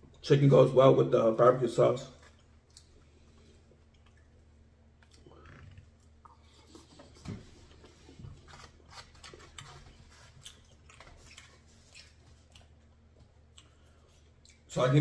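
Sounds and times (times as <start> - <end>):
person chewing food: 2.2 - 14.7.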